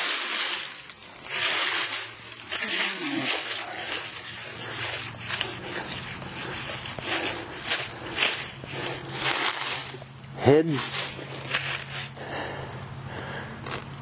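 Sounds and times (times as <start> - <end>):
hand scraping stone: 0.0 - 12.2.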